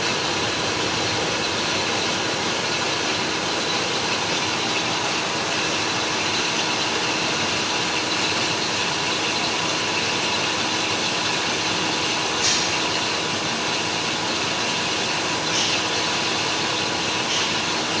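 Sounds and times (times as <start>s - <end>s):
lathe machine running: 0.0s - 18.0s.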